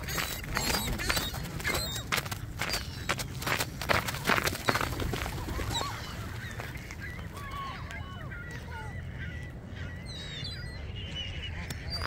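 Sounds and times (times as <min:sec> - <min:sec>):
gulls and ducks calling: 0:00.0 - 0:12.0.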